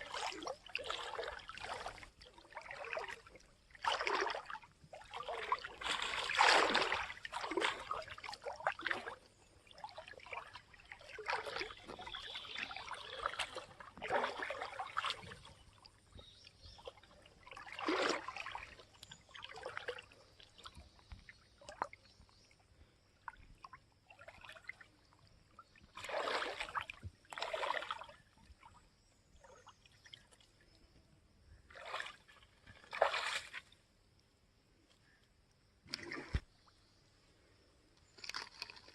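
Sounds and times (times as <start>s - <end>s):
water sloshing and splashing: 0.0s - 34.0s, 35.8s - 36.8s, 38.0s - 38.9s.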